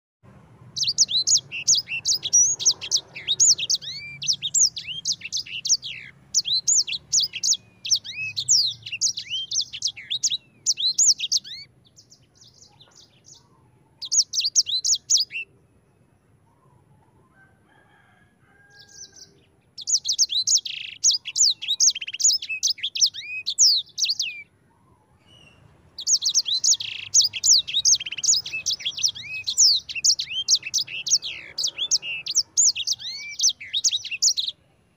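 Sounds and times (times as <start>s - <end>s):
songbird warbling: 0.8s - 15.5s, 18.6s - 34.6s.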